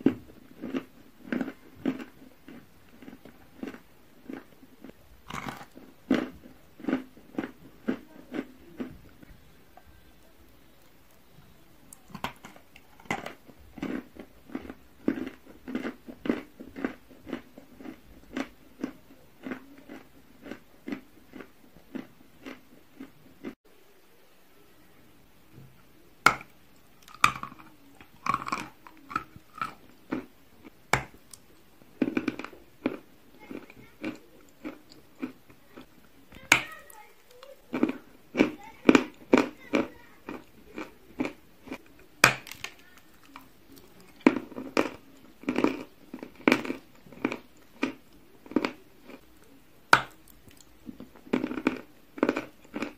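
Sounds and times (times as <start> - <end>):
chalk crunching when chewed: 0.0 - 9.4, 10.1 - 23.6, 26.3 - 52.9.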